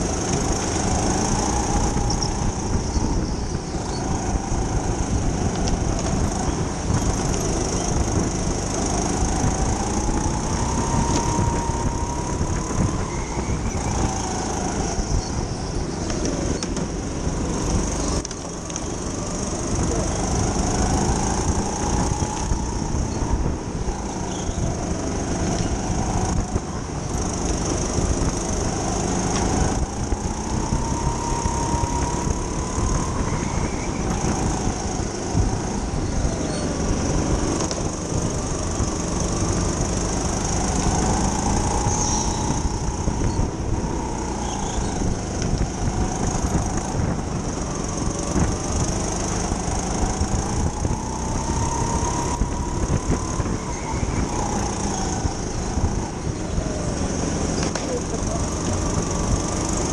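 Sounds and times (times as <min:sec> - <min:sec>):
go-kart motor accelerating: 0:00.0 - 0:59.9.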